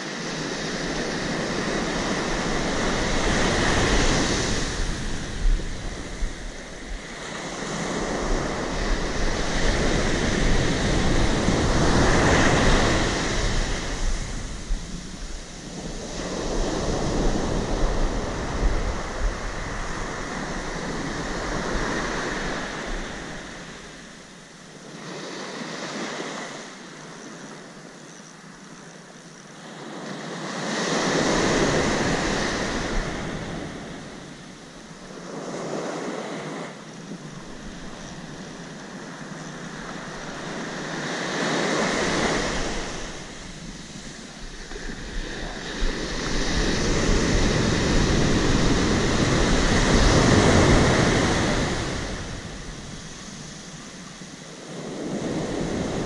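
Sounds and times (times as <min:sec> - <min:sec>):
surf breaking on beach: 0:00.0 - 0:24.2, 0:29.8 - 0:56.0
wind rumble on microphone: 0:00.0 - 0:26.6, 0:29.7 - 0:56.0.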